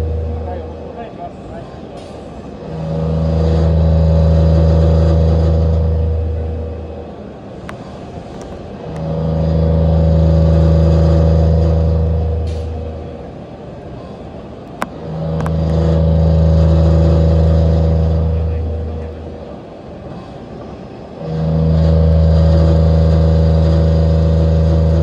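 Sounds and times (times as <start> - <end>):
lathe low hum: 0.0 - 25.0.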